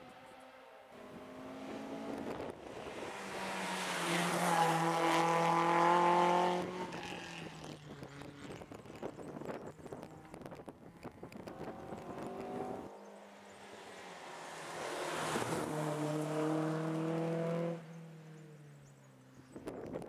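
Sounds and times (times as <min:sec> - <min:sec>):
rally car engines revving: 0:00.0 - 0:18.4.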